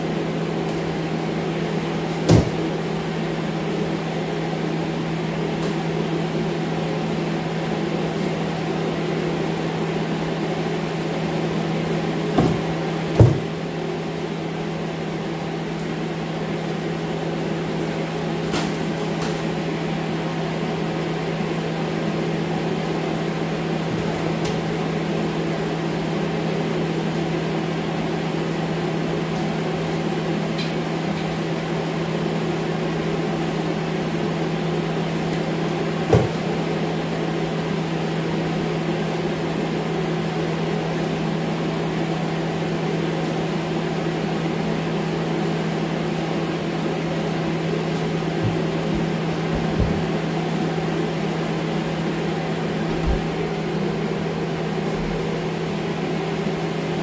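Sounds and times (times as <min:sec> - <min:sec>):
fan humming: 0:00.0 - 0:57.0.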